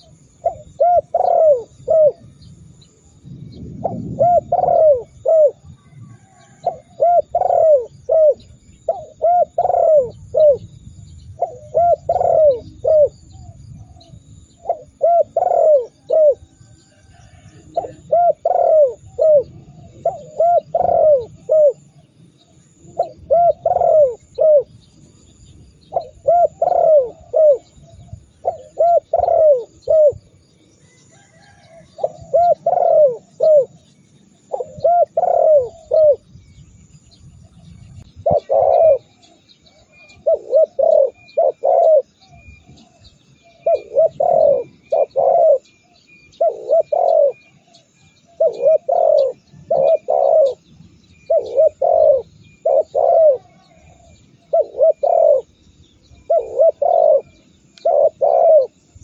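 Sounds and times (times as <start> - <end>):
dove cooing: 0.0 - 36.3, 37.4 - 59.0.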